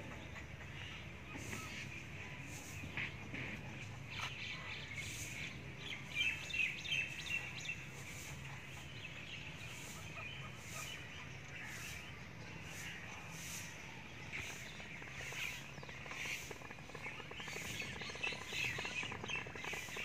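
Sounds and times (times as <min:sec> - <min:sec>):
birds chirping: 0:00.0 - 0:20.0
low background hum: 0:00.0 - 0:20.0.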